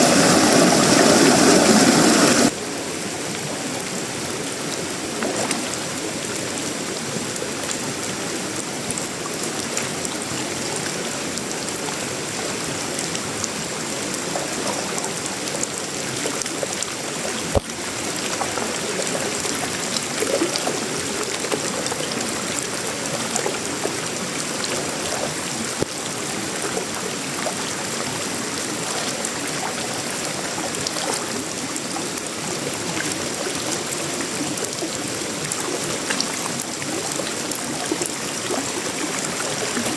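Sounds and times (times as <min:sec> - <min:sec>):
rain on metal roofing and leaves: 0:00.0 - 0:39.9.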